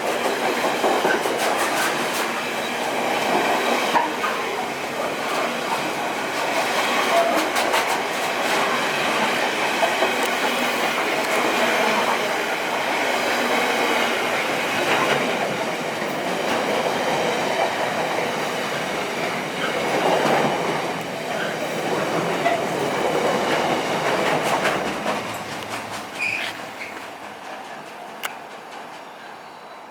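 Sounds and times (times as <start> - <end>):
train wheel-on-rail noise: 0.0 - 29.9
wheels clicking over rail joints: 5.2 - 29.2.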